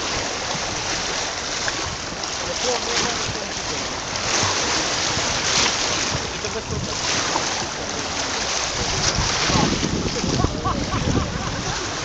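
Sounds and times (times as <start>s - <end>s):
sea water rushing: 0.0s - 12.0s
wind buffeting microphone: 0.0s - 12.0s.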